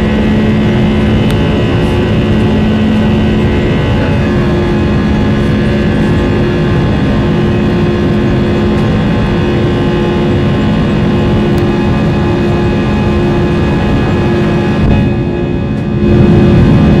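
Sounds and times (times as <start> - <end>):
rush of engines and airflow: 0.0 - 17.0
steady low hum: 0.0 - 17.0.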